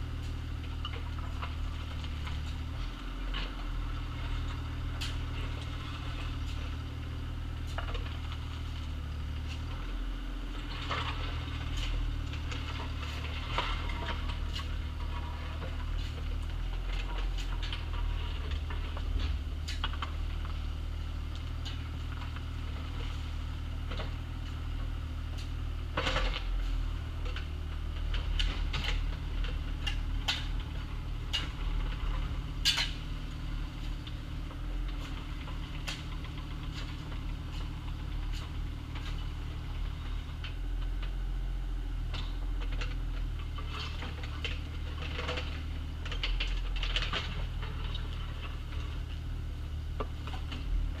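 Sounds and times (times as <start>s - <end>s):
excavator engine running: 0.0s - 51.0s.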